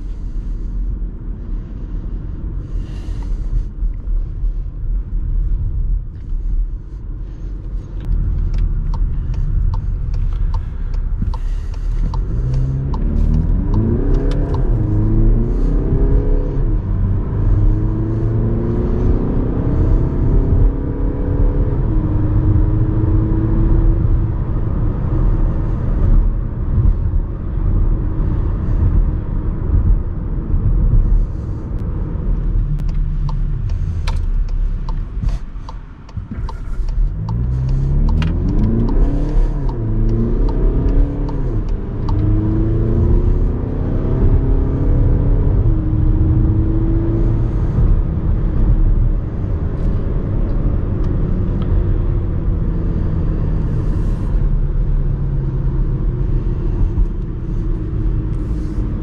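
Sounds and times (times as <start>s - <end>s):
car engine accelerating: 0.0s - 59.0s
road and tyre noise: 0.0s - 59.0s.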